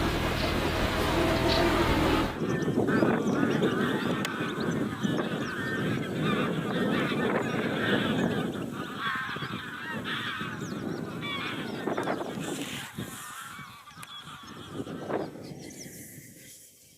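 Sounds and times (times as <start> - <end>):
finches twittering chirps: 0.0 - 16.6.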